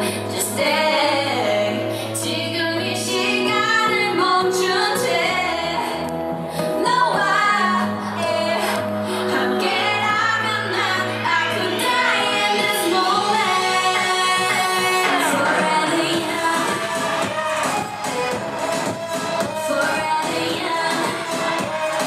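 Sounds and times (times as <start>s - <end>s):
woman singing: 0.0s - 6.1s, 6.7s - 22.0s
electronic pop backing track: 0.0s - 22.0s.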